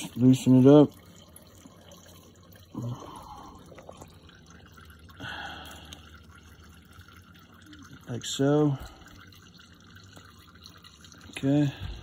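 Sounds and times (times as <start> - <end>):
oil dripping into pan: 0.0 - 12.0.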